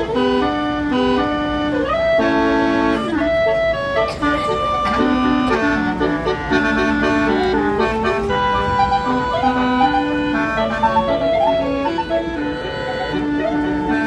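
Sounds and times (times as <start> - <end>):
low engine rumble: 0.0 - 14.0
musical air horn playing: 0.0 - 14.0.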